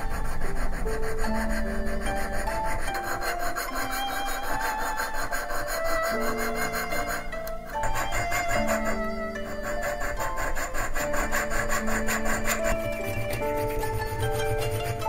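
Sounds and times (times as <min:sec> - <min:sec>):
background music: 0:00.0 - 0:15.0
file rasping on metal: 0:00.0 - 0:15.0.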